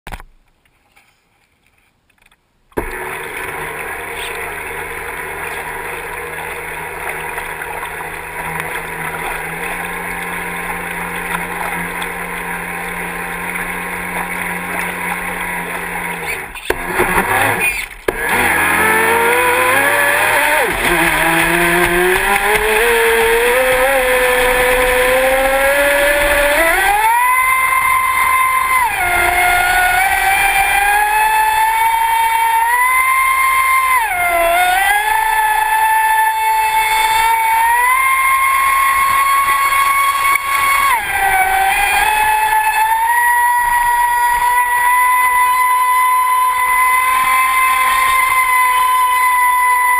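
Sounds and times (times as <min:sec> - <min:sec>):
electric boat motor whine: 0:02.8 - 0:49.9
water rushing along hull: 0:02.8 - 0:49.9.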